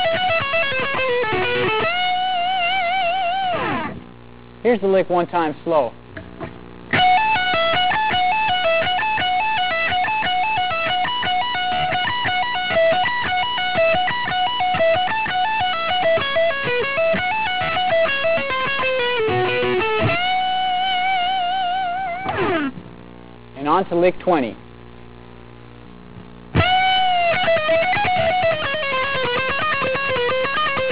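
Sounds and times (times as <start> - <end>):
electric guitar playing slow notes: 0.0 - 4.6, 6.0 - 23.6, 26.5 - 30.9.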